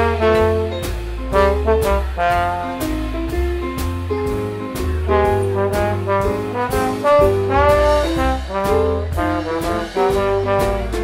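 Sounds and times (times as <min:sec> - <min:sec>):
trombone melody: 0:00.0 - 0:03.5, 0:04.3 - 0:11.0
drum kit with cymbal hits: 0:00.0 - 0:11.0
upright bass notes: 0:00.0 - 0:11.0.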